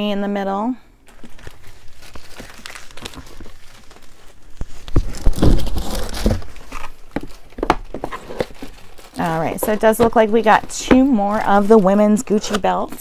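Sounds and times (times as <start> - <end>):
packaging rustling and crinkling: 1.0 - 13.0.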